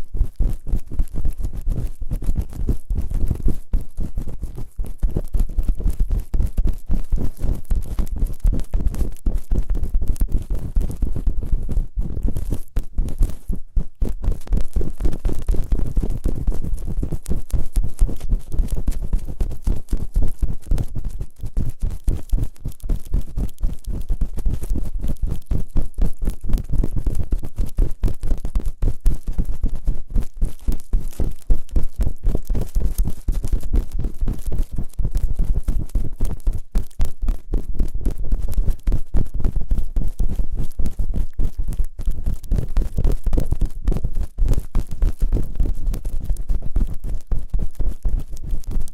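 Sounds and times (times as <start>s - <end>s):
rubbing and scraping on microphone: 0.0s - 48.9s.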